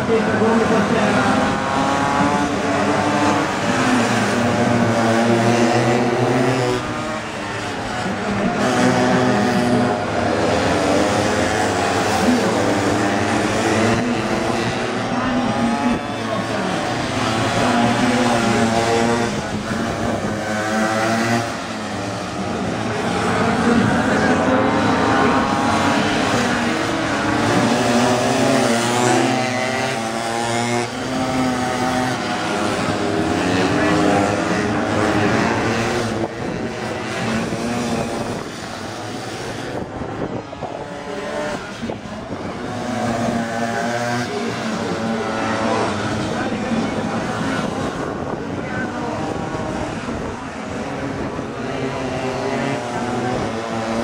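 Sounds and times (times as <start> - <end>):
small engines buzzing at high revs: 0.0 - 54.0.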